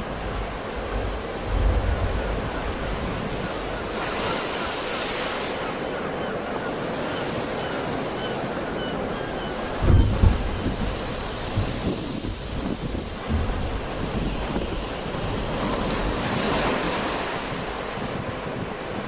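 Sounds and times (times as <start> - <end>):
wind buffeting the microphone: 0.0 - 5.7, 8.6 - 19.0
sea waves washing onto shore: 0.0 - 19.0.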